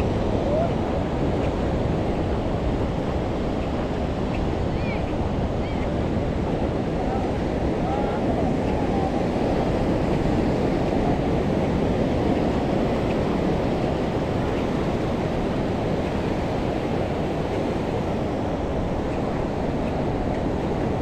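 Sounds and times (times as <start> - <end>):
ocean surf rushing: 0.0 - 21.0
wind on microphone: 0.0 - 21.0.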